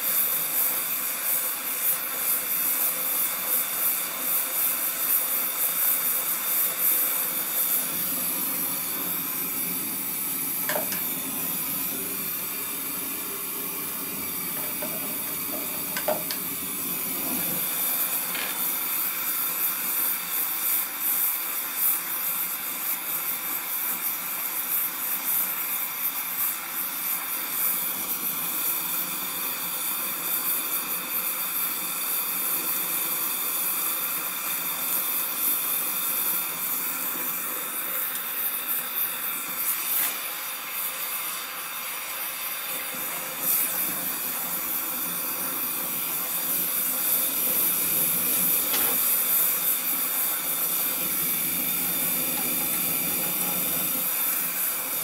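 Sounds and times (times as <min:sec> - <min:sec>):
gas torch flame hissing: 0:00.0 - 0:55.0.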